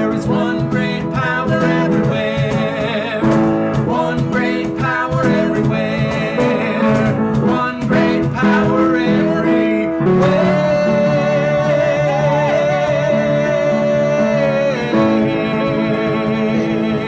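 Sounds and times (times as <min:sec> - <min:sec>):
instrumental accompaniment: 0:00.0 - 0:17.0
woman and man singing: 0:00.0 - 0:17.0.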